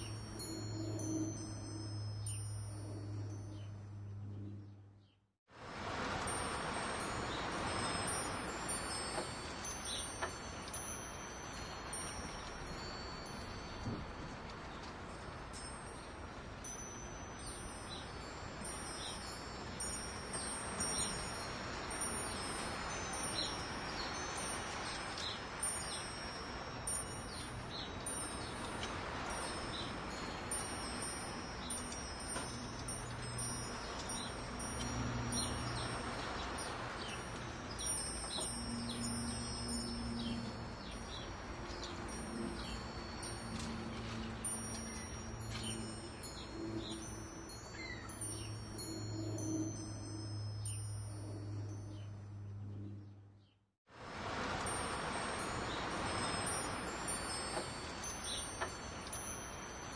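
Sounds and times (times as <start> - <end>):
metal wind chimes tinkling: 0.0 - 4.7, 5.6 - 59.9.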